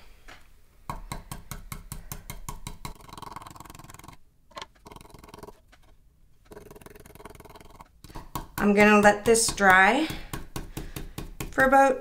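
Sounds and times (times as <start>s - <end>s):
stencil brush tapping: 0.9s - 5.9s, 6.5s - 11.8s.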